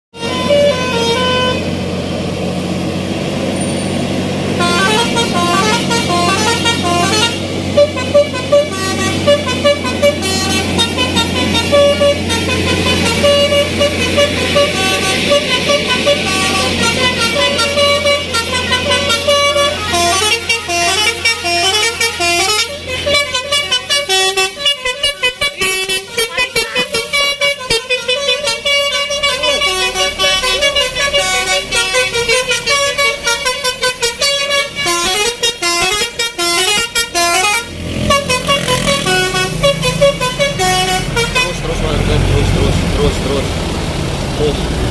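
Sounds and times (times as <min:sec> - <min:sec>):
multi-tone bus horn melodies: 0:00.1 - 0:43.5.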